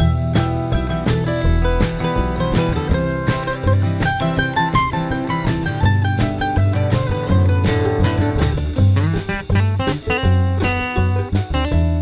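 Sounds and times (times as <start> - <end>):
bass notes: 0.0 - 12.0
strummed guitar chords: 0.0 - 12.0.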